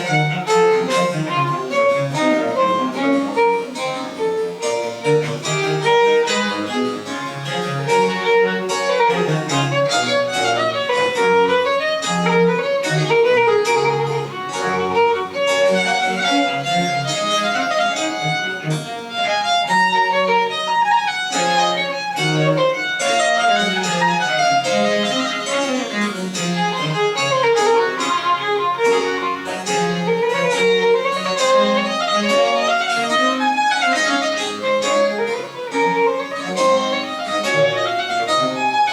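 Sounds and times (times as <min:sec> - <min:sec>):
violin running melody: 0:00.0 - 0:38.9.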